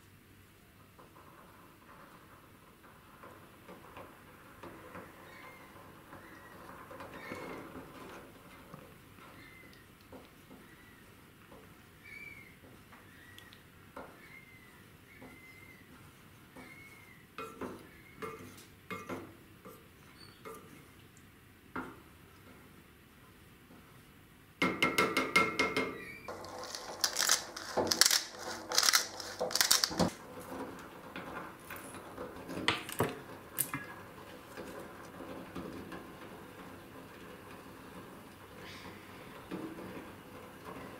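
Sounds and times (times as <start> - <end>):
wooden spoon stirring in metal pot: 0.8 - 21.0, 25.0 - 40.9.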